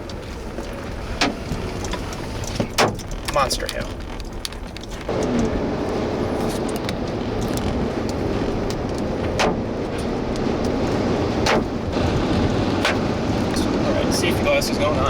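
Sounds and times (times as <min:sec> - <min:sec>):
car engine and road noise: 0:00.0 - 0:15.0
hailstones striking a car: 0:00.0 - 0:15.0.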